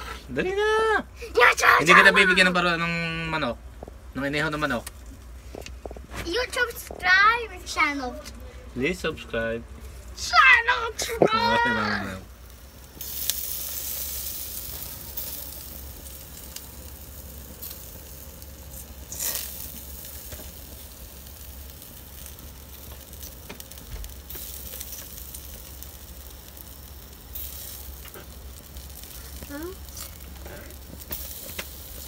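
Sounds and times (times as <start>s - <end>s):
chicken sizzling on a grill: 0.0s - 5.1s, 8.8s - 32.0s
dripping fat hissing and crackling: 1.2s - 32.0s.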